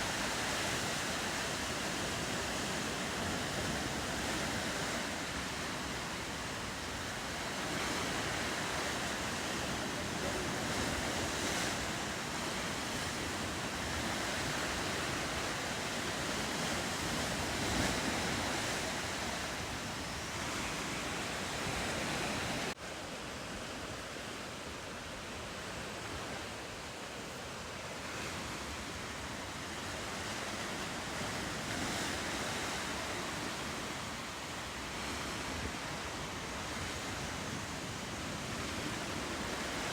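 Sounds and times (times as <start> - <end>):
ocean waves rushing: 0.0 - 39.9
wind: 0.0 - 39.9.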